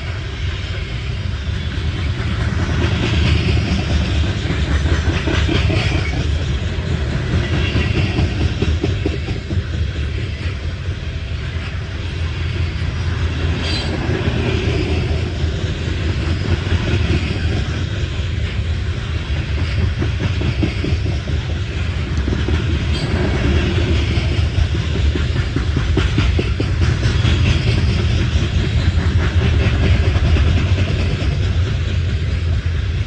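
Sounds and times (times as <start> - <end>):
low rumble of train cars: 0.0 - 33.0
train wheels clicking over rail joints: 0.0 - 33.0.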